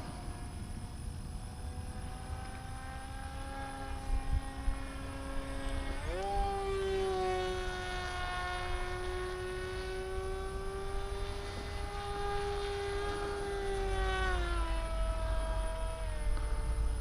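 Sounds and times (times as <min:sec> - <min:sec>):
electric motor propeller whine: 0:00.0 - 0:17.0.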